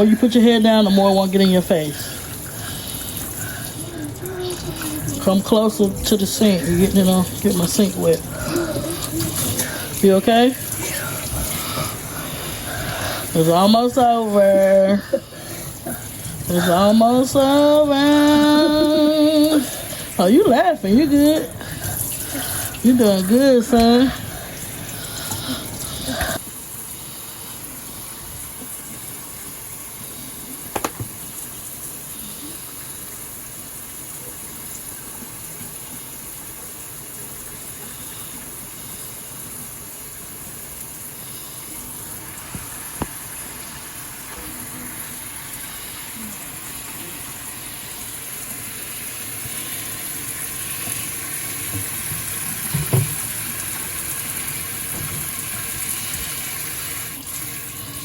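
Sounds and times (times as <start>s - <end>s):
tap water running into sink: 0.0s - 58.0s.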